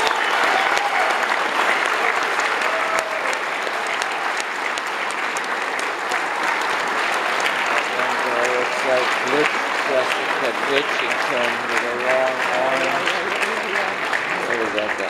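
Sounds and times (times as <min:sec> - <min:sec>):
audience applauding: 0:00.0 - 0:15.0
faint crowd voices: 0:00.0 - 0:15.0.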